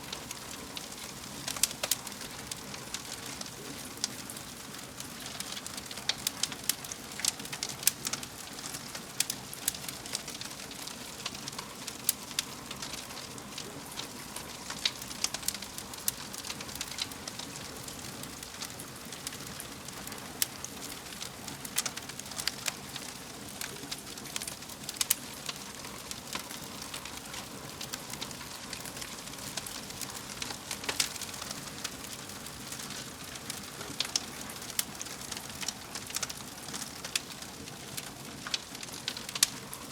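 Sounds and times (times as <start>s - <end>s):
soft hiss of burning: 0.0s - 39.9s
wood fire crackling and popping: 0.0s - 39.9s.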